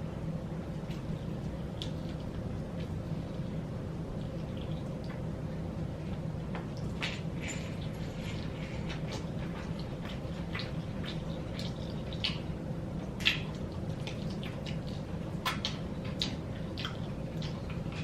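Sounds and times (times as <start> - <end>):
steady low hum: 0.0 - 18.0
wet chewing sounds: 0.6 - 18.0.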